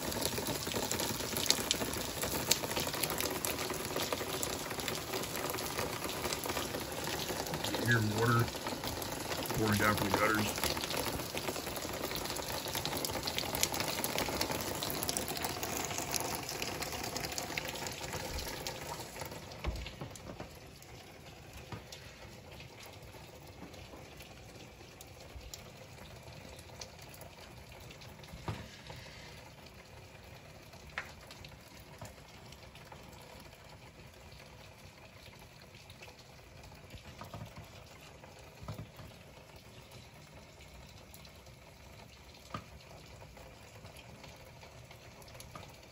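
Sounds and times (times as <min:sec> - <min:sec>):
steady rain: 0:00.0 - 0:45.9
water pouring from gutters: 0:00.0 - 0:45.9.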